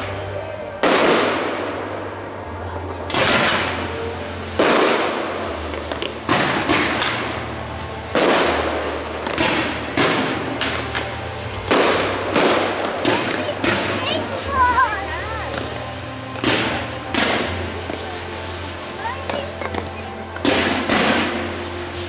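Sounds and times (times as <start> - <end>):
fireworks bangs with echo: 0.0 - 22.0.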